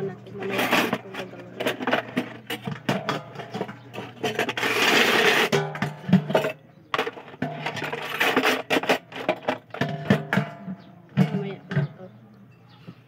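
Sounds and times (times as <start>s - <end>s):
dishes scrubbing and scraping: 0.0s - 12.1s
plates and utensils clinking: 0.0s - 12.7s.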